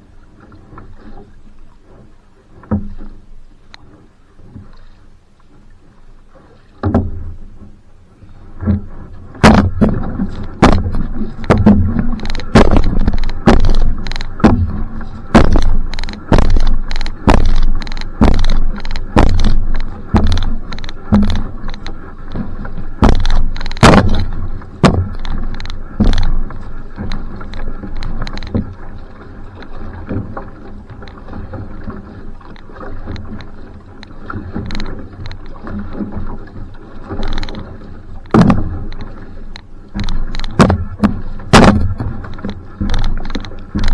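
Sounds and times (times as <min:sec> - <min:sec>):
paddle splashing: 0:00.0 - 0:43.9
running water: 0:00.0 - 0:43.9.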